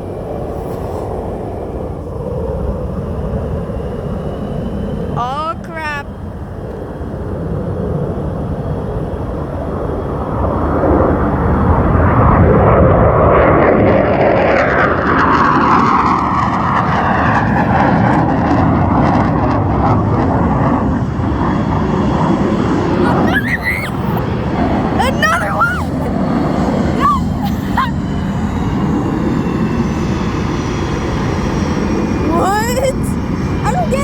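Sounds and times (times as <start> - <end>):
fighter jet taking off: 5.8 - 34.0.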